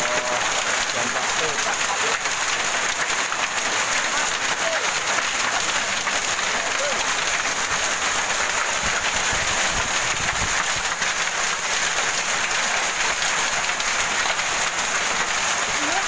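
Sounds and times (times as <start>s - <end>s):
heavy rain and hail: 0.0s - 16.0s.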